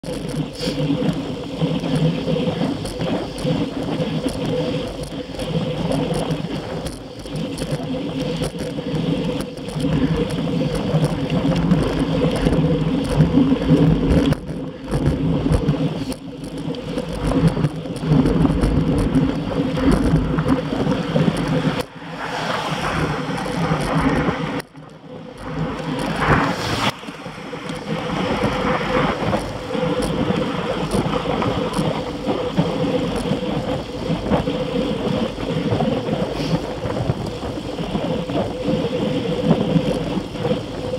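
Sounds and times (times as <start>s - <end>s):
bicycle tyres on rough asphalt: 0.0s - 40.9s
low hum: 0.0s - 40.9s
wind rush: 0.0s - 40.9s.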